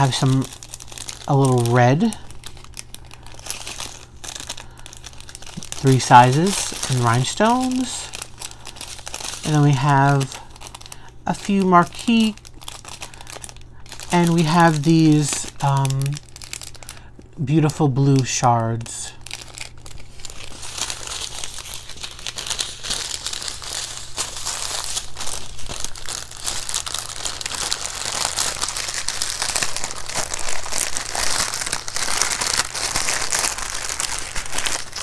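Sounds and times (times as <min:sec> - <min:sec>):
plastic packaging crinkling: 0:00.0 - 0:35.0.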